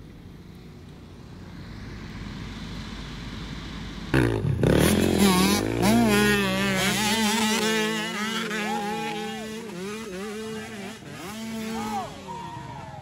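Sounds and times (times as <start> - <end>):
dirt bike engines revving: 0.2 - 13.0.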